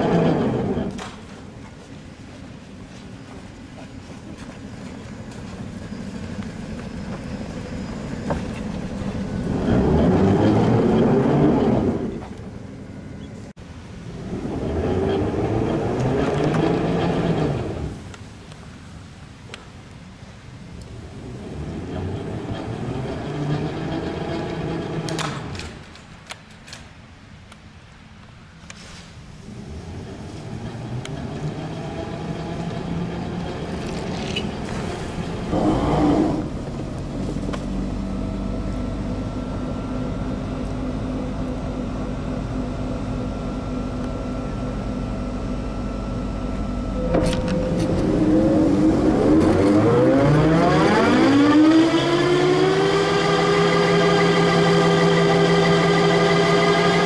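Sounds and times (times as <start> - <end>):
trolleybus electric drive rumble: 0.0 - 57.0.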